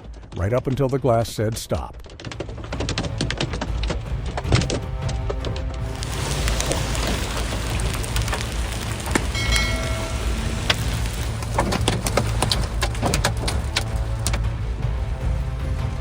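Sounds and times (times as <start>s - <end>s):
cracks of large hailstones: 0.0s - 16.0s
hail rattling on a car: 2.0s - 16.0s
low rumble: 2.5s - 16.0s.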